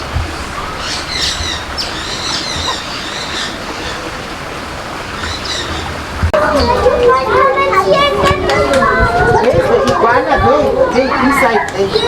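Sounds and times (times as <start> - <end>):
small birds chirping: 0.0 - 4.4, 5.0 - 12.0
steady rushing noise: 0.0 - 12.0.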